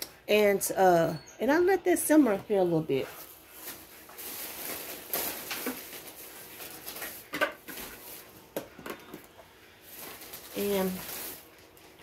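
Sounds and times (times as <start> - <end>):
groceries rustling and knocking: 2.0 - 12.0.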